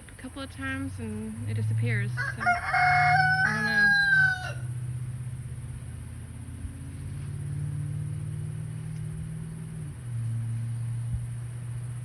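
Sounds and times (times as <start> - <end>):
low motor drone: 0.0 - 12.0.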